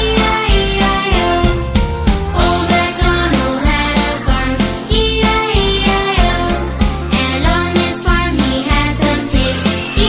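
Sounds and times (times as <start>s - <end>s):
upbeat children's song: 0.0s - 10.0s.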